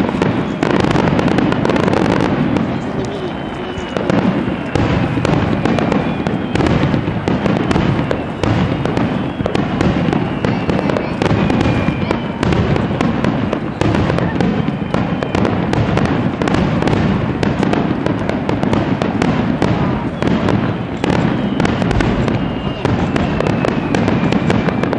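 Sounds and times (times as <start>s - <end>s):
fireworks bangs and crackles: 0.0s - 24.9s
fireworks falling whistles: 0.0s - 24.9s.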